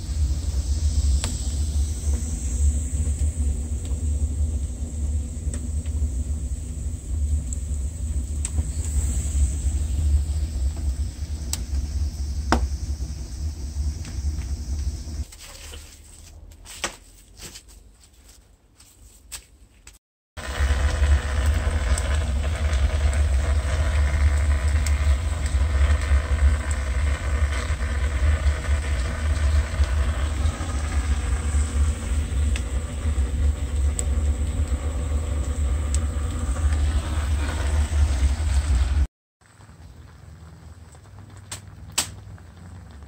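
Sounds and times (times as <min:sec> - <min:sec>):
roar of wood fire flames: 0:00.0 - 0:16.4, 0:20.4 - 0:43.0
fire crackling and popping: 0:00.0 - 0:17.0, 0:20.4 - 0:43.0.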